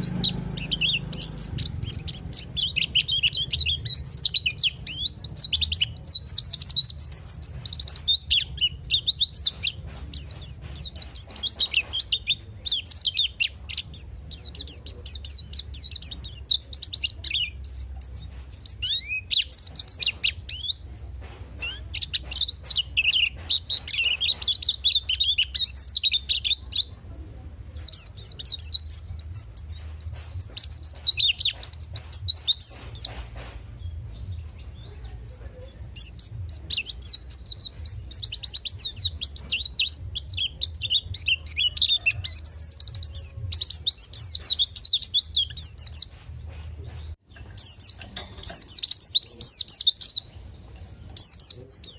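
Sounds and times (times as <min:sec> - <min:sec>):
bird twittering song: 0:00.0 - 0:51.9.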